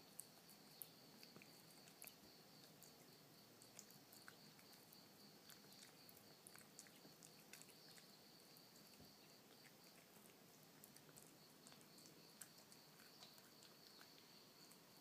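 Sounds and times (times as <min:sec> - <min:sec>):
kitten licking and chewing food: 0:00.0 - 0:15.0.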